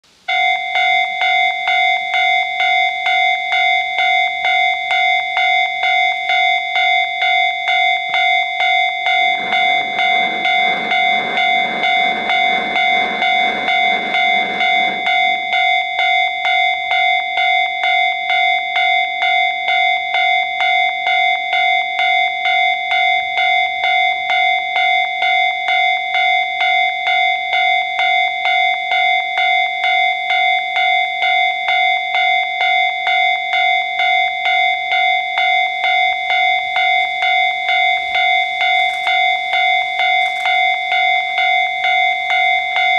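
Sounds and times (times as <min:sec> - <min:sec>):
level crossing electronic bell: 0:00.3 - 0:42.9.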